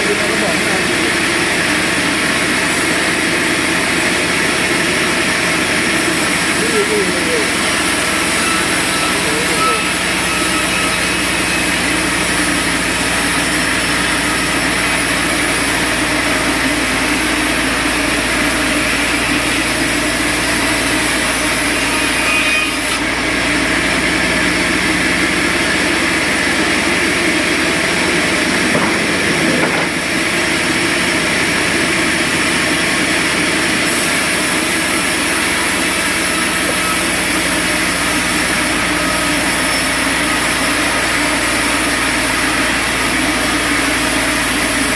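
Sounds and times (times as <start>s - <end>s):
saw cutting through log: 0.0s - 44.9s.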